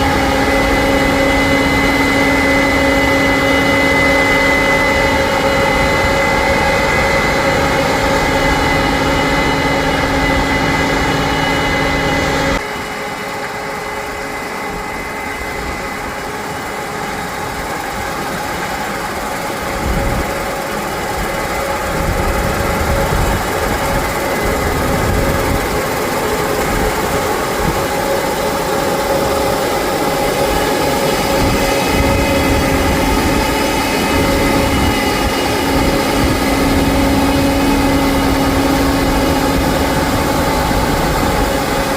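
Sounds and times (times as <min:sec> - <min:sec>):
constant machine whine: 0:00.0 - 0:41.9
harvest machinery engine running: 0:00.0 - 0:41.9.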